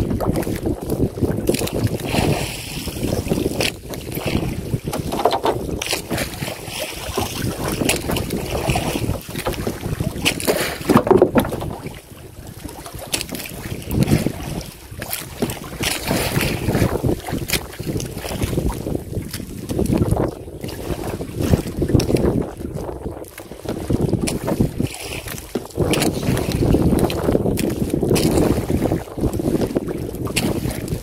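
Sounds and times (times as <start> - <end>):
water splashing around a canoe hull: 0.0 - 31.0
wind buffeting microphone: 0.0 - 31.0.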